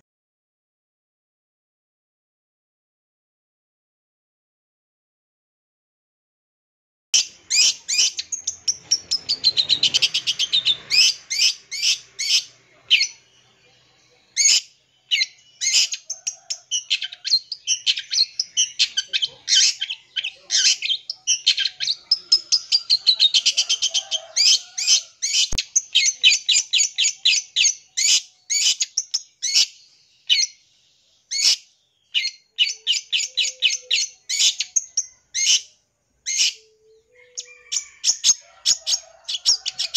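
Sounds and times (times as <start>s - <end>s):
mimicked bird calls: 7.2s - 30.6s, 31.3s - 39.9s
bird chattering song: 7.2s - 39.9s.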